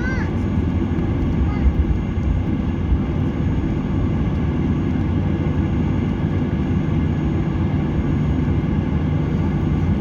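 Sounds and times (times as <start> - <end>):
jet engine rumble in airliner cabin: 0.0 - 10.0.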